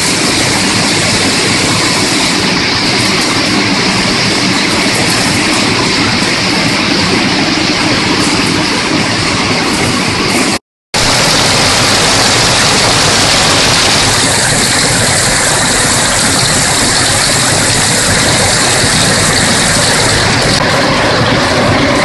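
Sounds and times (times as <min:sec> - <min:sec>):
machinery rushing noise: 0:00.0 - 0:22.0.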